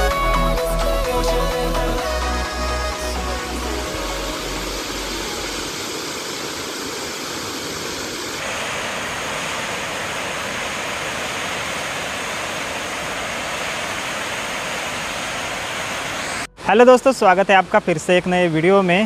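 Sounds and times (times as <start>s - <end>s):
waterfall rushing hiss: 2.1s - 19.0s.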